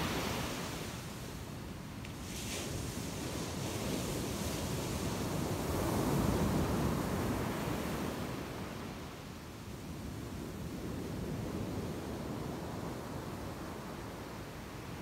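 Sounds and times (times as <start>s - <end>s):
ocean surf on sand: 0.0s - 15.0s.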